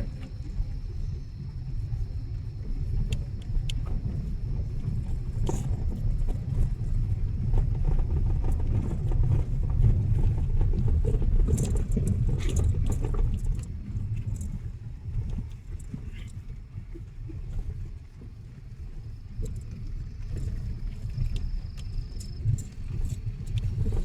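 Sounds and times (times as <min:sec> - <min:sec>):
vehicle rumbling on rough road: 0:00.0 - 0:24.0.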